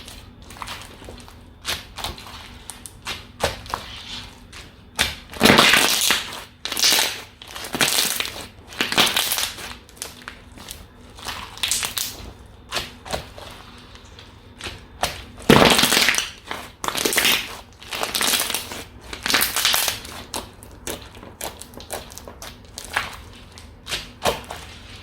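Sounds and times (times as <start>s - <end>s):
slime squishing by hand: 0.0s - 25.0s.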